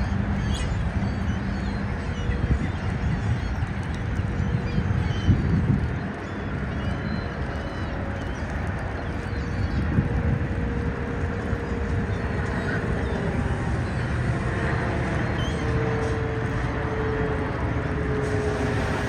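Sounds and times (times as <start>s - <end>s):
faint held drone: 0.0s - 19.0s
low outdoor rumble: 0.0s - 19.0s.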